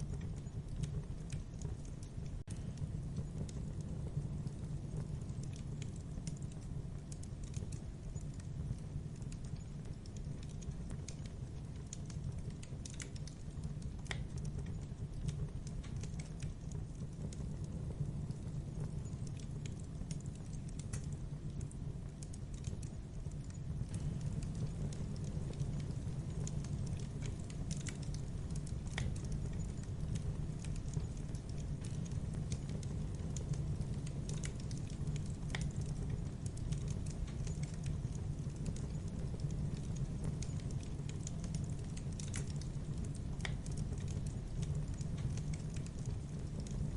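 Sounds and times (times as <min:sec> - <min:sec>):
low rumble of flames: 0:00.0 - 0:46.9
wood crackling and popping: 0:00.0 - 0:46.9.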